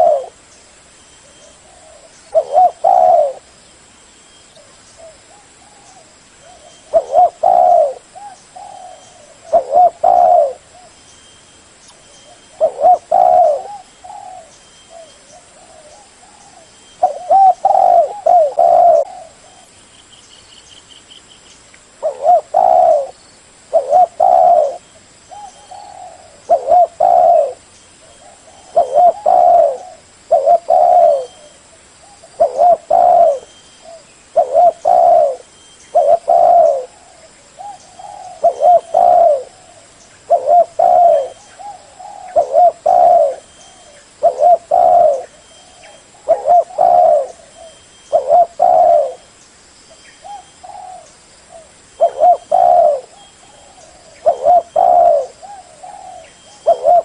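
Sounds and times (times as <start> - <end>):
dove cooing: 0.0 - 0.4, 1.3 - 3.6, 4.6 - 11.0, 12.2 - 19.7, 22.0 - 49.3, 50.2 - 57.0.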